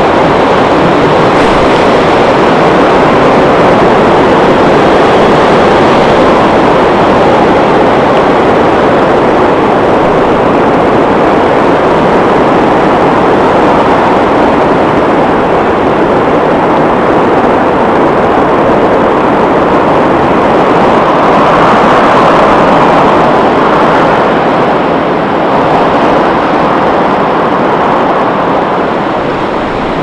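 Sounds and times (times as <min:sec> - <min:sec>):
strong wind blowing: 0:00.0 - 0:30.0.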